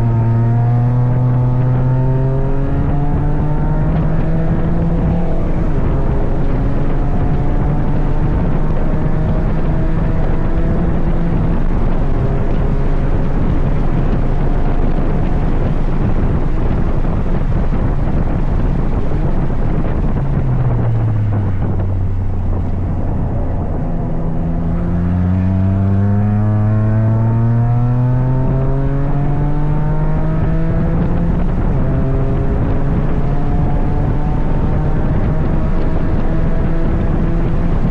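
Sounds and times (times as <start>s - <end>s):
car engine running hard: 0.0s - 37.9s
wind and road noise: 0.0s - 37.9s.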